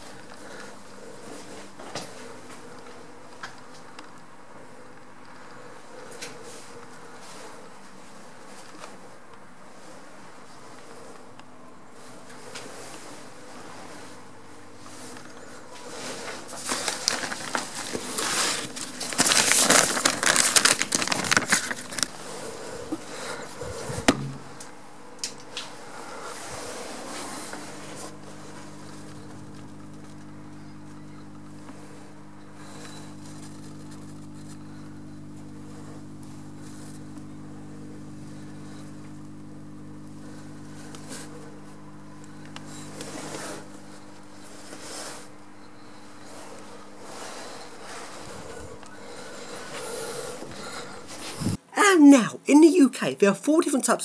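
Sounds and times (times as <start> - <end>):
lift machinery hum: 0.0 - 51.6.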